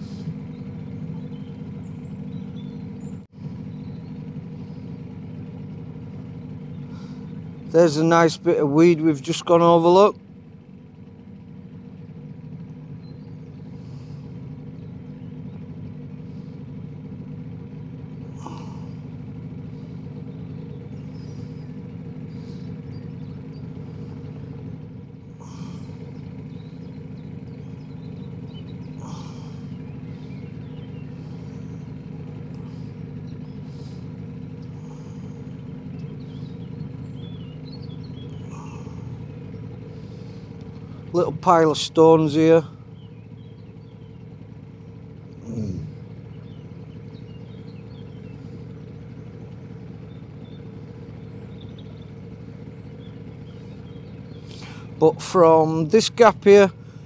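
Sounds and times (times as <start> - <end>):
outboard motor droning: 0.0 - 57.0.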